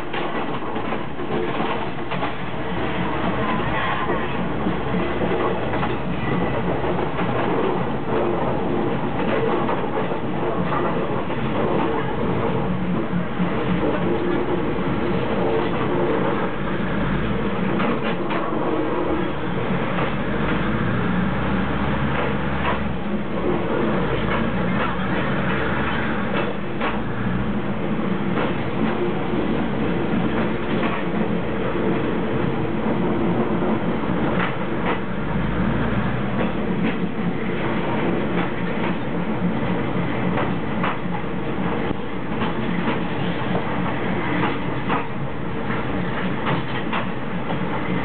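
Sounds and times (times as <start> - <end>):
wheels running on rails: 0.0 - 48.0.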